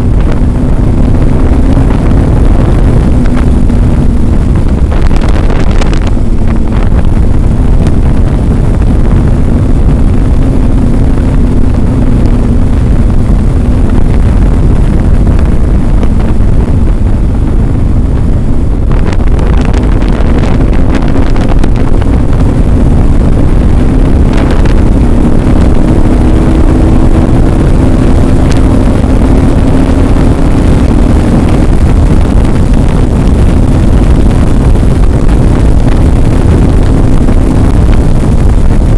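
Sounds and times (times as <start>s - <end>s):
vehicle engine drone: 0.0s - 38.9s
wind buffeting microphone: 0.0s - 38.9s.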